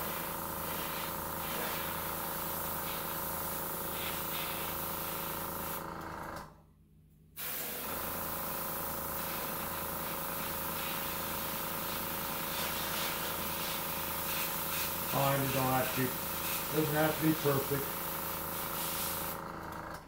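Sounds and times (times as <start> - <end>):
airbrush spraying hiss: 0.0 - 5.8, 7.4 - 19.4
air compressor humming: 0.0 - 6.5, 7.4 - 20.0.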